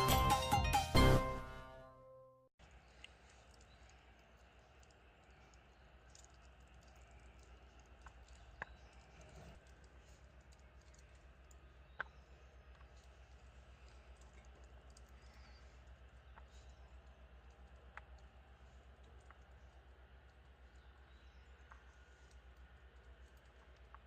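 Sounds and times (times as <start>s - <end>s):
wood fire crackling: 2.6s - 24.0s.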